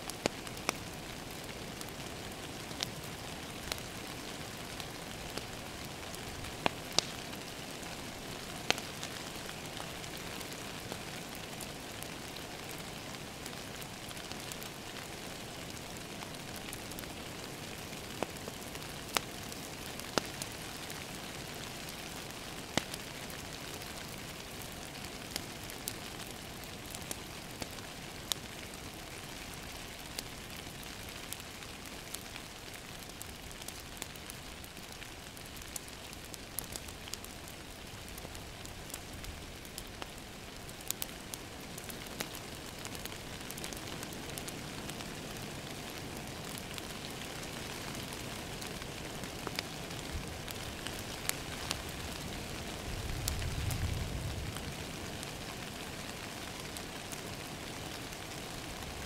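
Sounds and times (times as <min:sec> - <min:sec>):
rain pattering on a window: 0:00.0 - 0:59.0
wood fire crackling: 0:00.0 - 0:59.0.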